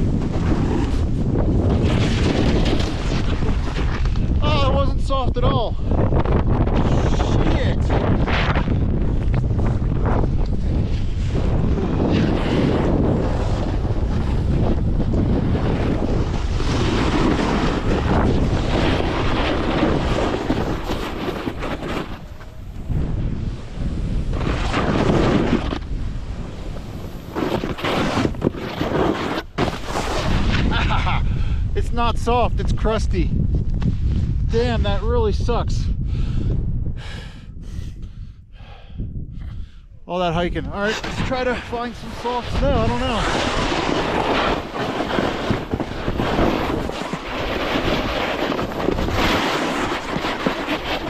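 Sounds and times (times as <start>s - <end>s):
snowboard scraping on crusted snow: 0.0s - 35.7s, 40.2s - 51.0s
wind rumble on microphone: 0.0s - 51.0s.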